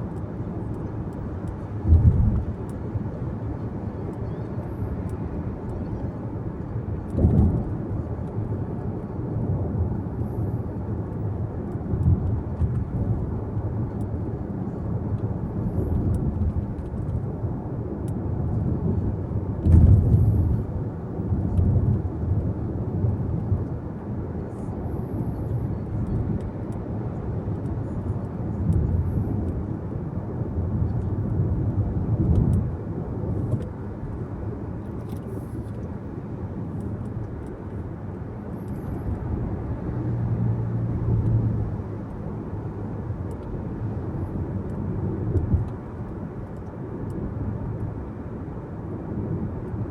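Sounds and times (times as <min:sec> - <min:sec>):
car road noise rumble: 0:00.0 - 0:49.9.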